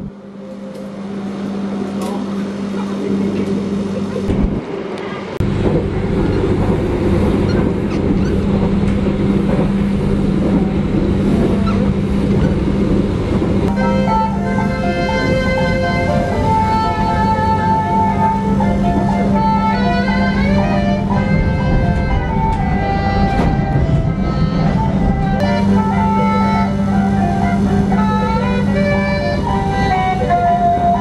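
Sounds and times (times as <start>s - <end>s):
train carriage rumble: 0.0s - 31.0s.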